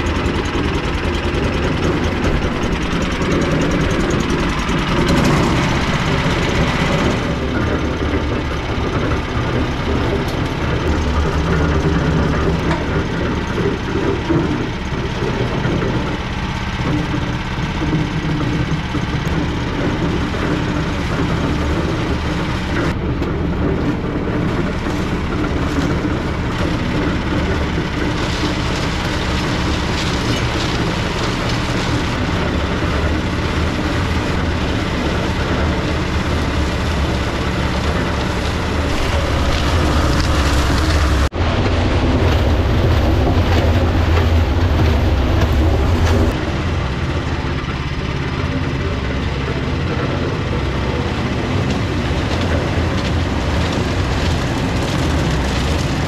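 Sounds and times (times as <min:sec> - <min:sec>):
cement mixer running: 0:00.0 - 0:56.0.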